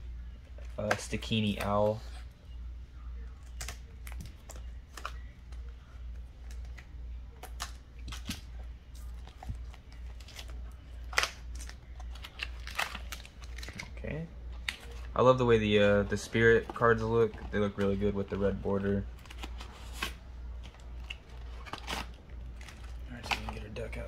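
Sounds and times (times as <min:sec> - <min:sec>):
steady low hum: 0:00.0 - 0:24.0
shrink wrap crinkling: 0:03.4 - 0:24.0.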